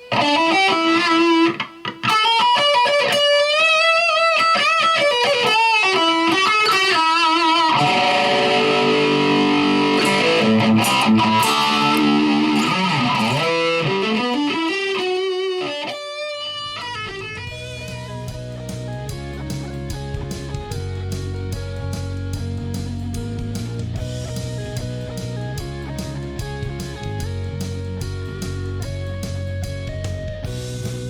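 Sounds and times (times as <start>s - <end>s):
electric guitar playing: 0.0s - 31.0s.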